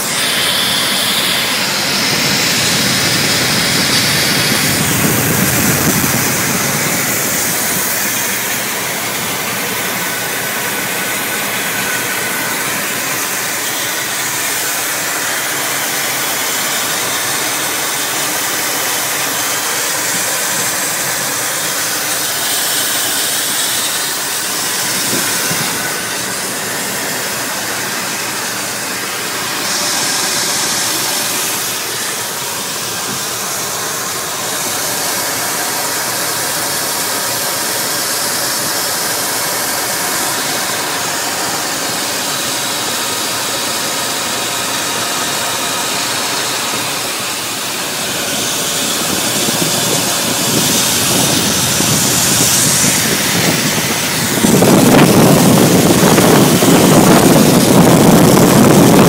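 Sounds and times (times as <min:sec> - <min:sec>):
car engine running: 0:00.0 - 0:59.0
steady hiss: 0:00.0 - 0:59.0.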